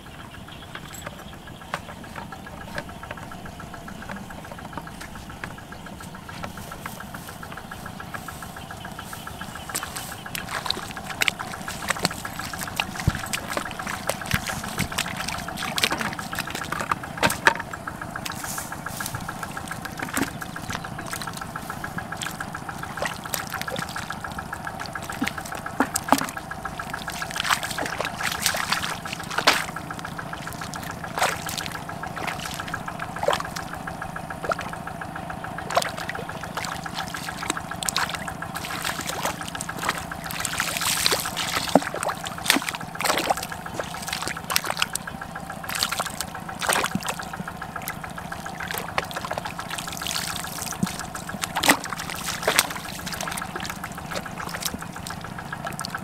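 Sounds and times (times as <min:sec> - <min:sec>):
splashing in muddy water: 0:00.0 - 0:56.0
steady hum: 0:00.0 - 0:56.0.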